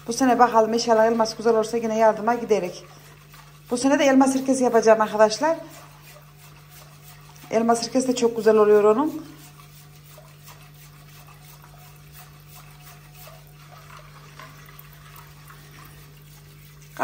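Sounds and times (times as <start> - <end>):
whisk sloshing liquid in pot: 0.0 - 17.0.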